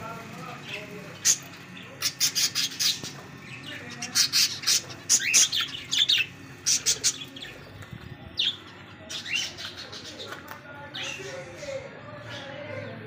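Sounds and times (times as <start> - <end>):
parakeets chirping: 0.1 - 11.8.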